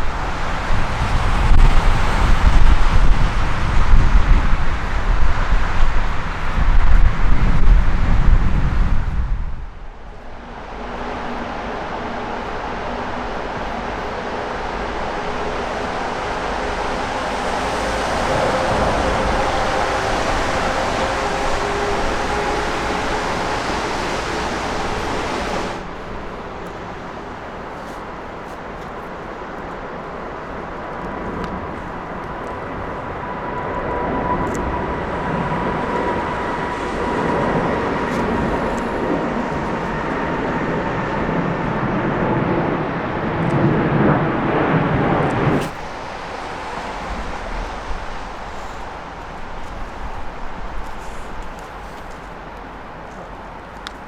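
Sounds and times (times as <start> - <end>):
jet engines whining and rushing: 0.0 - 54.0.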